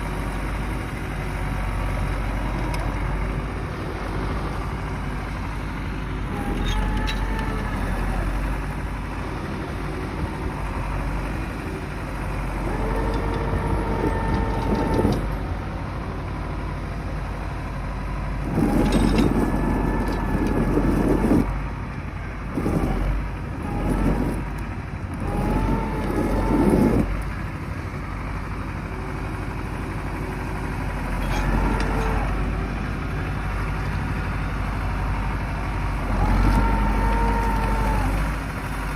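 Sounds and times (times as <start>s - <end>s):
tractor diesel engine revving: 0.0s - 38.9s.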